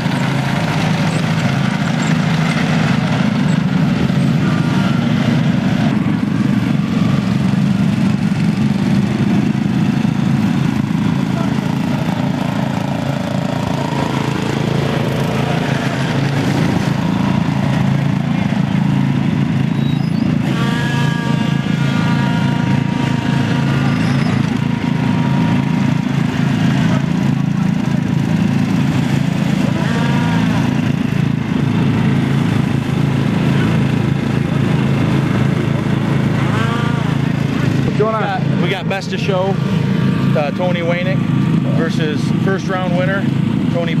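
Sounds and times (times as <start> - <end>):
lawn mower engines running: 0.0 - 44.0.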